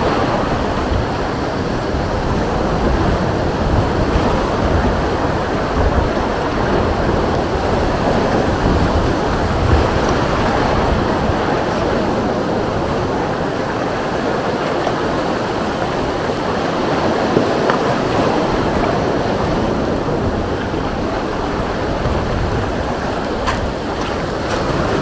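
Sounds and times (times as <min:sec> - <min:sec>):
sea surf: 0:00.0 - 0:25.0
wind buffeting microphone: 0:00.0 - 0:25.0.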